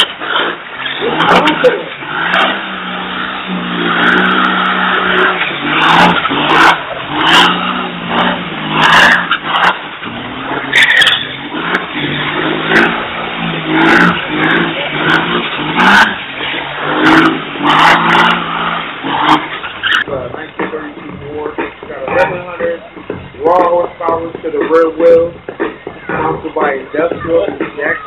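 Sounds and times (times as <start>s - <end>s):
diesel engine revving: 0.0s - 28.0s
tyres skidding and squealing: 0.0s - 28.0s.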